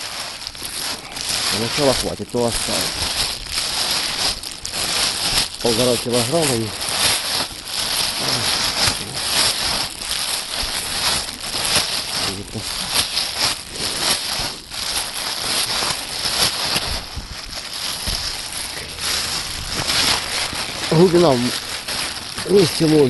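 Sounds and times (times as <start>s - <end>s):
grains rattling in a bag: 0.0s - 23.0s
plastic bag crinkling: 0.0s - 23.0s.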